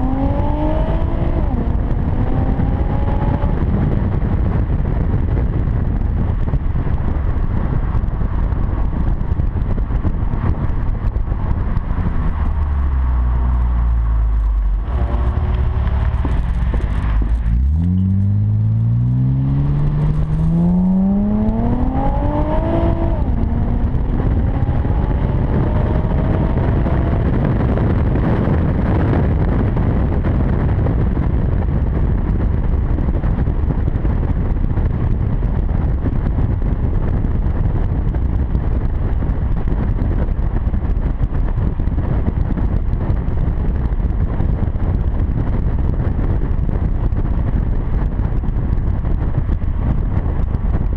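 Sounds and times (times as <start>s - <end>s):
car exhaust accelerating: 0.0s - 50.9s
wind and road noise: 0.0s - 50.9s.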